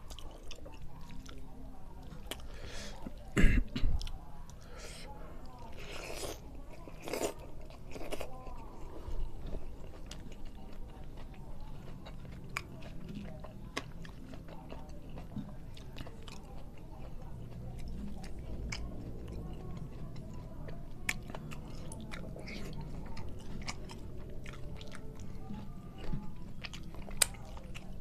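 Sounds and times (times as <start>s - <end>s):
man chewing food: 0.0s - 3.3s, 5.4s - 28.0s.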